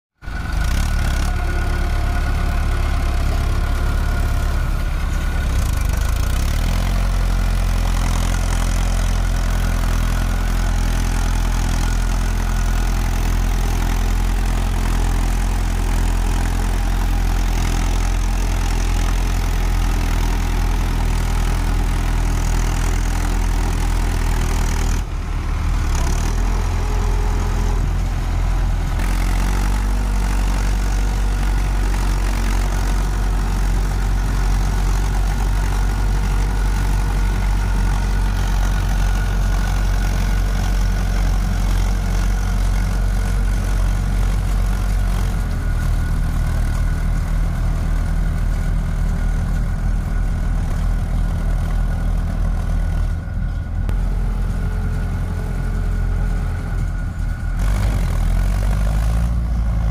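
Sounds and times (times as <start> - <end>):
tractor diesel engine under load: 0.1 - 59.9.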